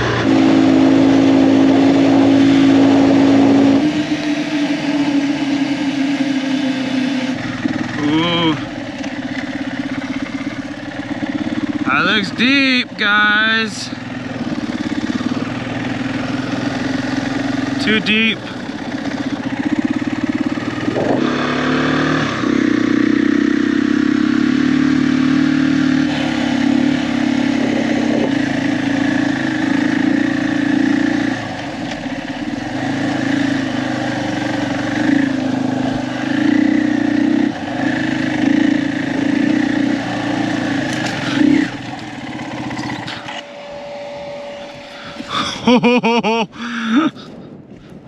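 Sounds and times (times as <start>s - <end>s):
motorcycle engine droning: 0.0s - 48.0s.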